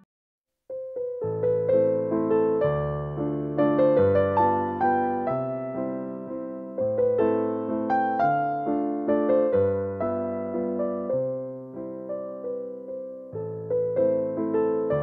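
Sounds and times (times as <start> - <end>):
slow gentle piano melody: 0.7 - 15.0.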